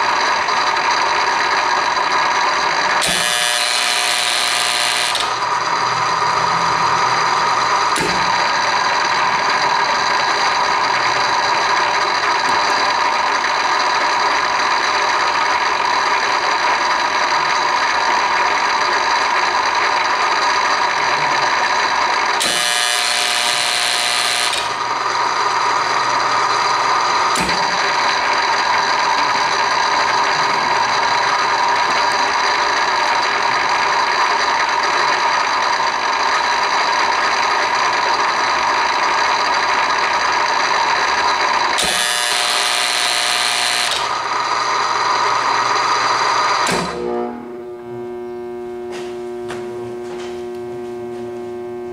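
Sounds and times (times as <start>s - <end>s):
machine whine: 0.0s - 51.9s.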